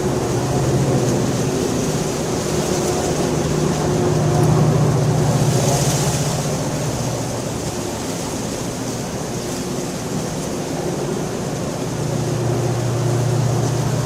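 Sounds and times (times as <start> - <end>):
heavy rain: 0.0 - 14.0
thunder rumble: 0.0 - 14.0.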